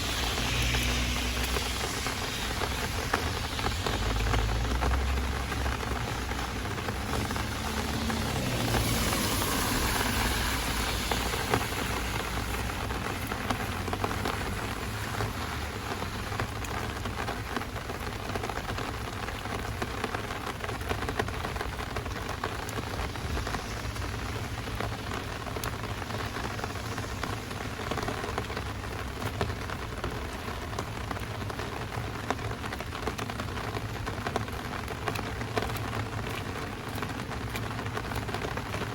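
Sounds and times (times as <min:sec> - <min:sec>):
heavy rain falling: 0:00.0 - 0:38.9
raindrops ticking: 0:00.0 - 0:38.9.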